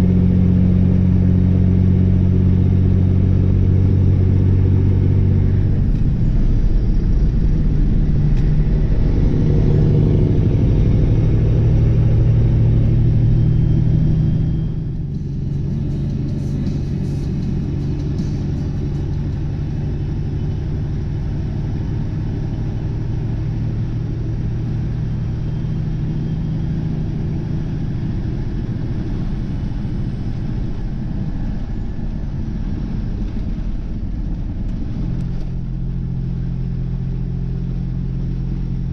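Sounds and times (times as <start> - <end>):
truck diesel engine drone: 0.0 - 38.9.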